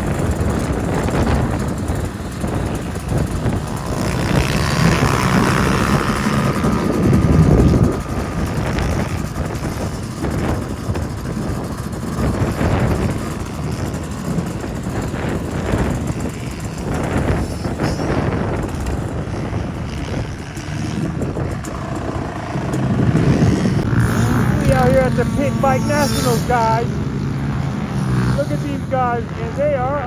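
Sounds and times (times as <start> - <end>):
pit bike engines running: 0.0 - 30.0
wind on microphone: 0.0 - 30.0.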